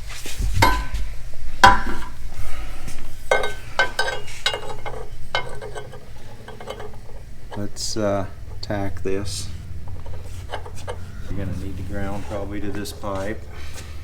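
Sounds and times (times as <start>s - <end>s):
metal pipes knocking and clinking: 0.4s - 14.0s.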